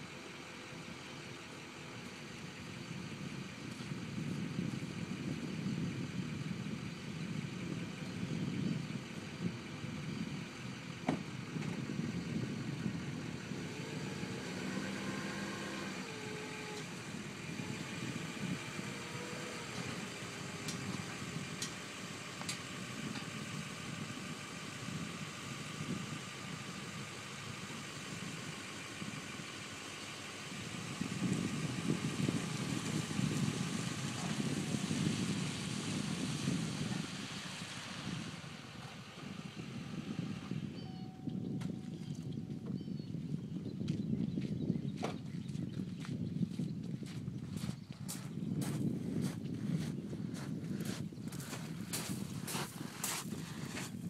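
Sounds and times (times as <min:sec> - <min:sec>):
airboat engine idling: 0:00.0 - 0:43.9.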